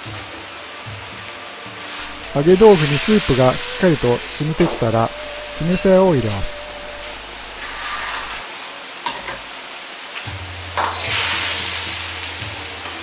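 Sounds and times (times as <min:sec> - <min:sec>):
sauce sizzling and bubbling: 0:00.4 - 0:13.0.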